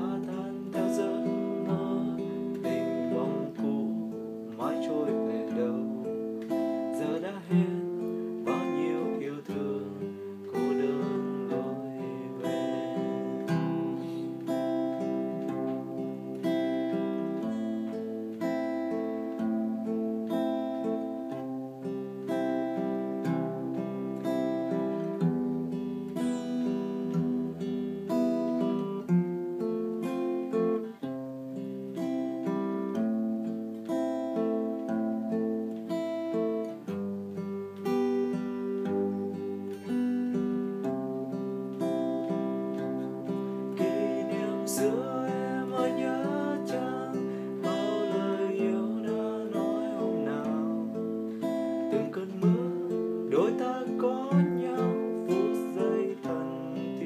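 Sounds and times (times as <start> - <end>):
fingerstyle acoustic guitar: 0.0 - 57.0.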